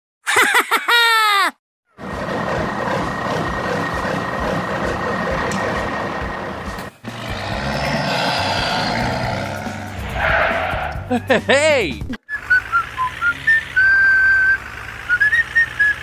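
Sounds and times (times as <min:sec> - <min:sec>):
different engine sound: 0:01.9 - 0:16.0
engine running steadily: 0:02.0 - 0:16.0.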